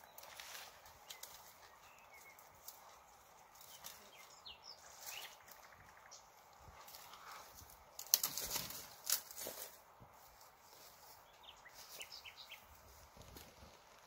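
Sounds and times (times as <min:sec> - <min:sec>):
faint clicks and rustles: 0:00.0 - 0:14.0.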